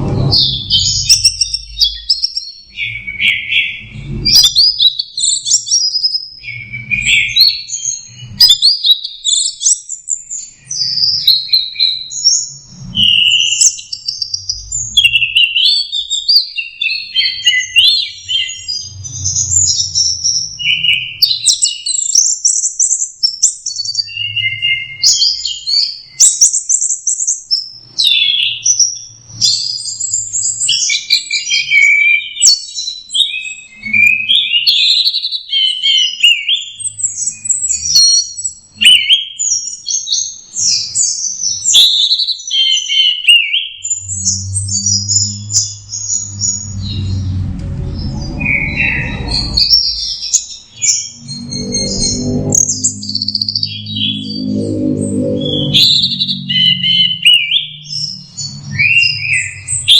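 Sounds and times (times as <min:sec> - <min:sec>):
thrush singing chirps and whistles: 0:00.0 - 0:59.9.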